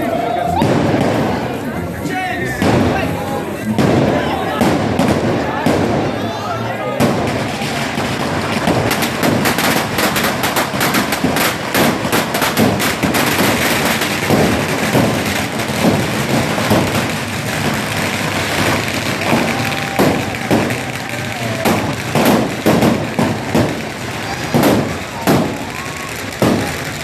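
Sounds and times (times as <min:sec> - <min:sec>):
firecrackers crackling bangs: 0:00.0 - 0:27.0.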